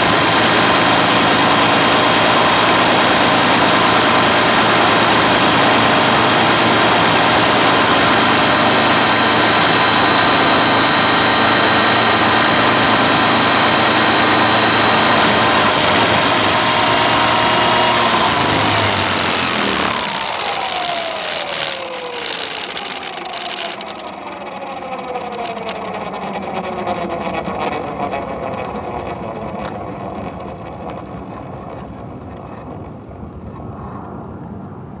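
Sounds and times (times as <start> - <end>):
helicopter rotor whine: 0.0 - 33.6.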